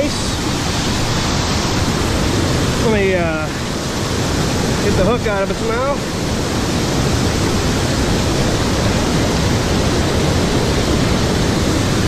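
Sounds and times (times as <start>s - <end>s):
fast river water rushing: 0.0s - 12.0s.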